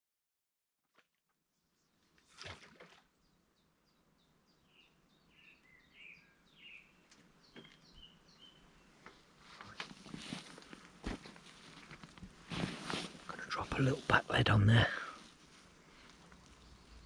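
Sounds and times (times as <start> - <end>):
quiet outdoor ambience: 1.0 - 17.0
songbird chirping: 1.6 - 17.0.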